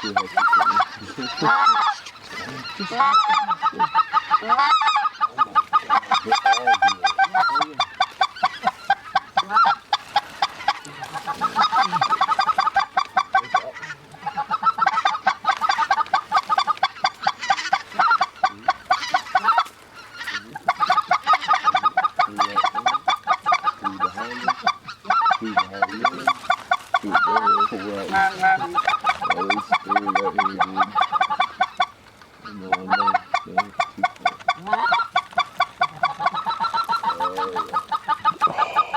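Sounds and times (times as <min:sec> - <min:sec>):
goose honking: 0:00.0 - 0:38.9.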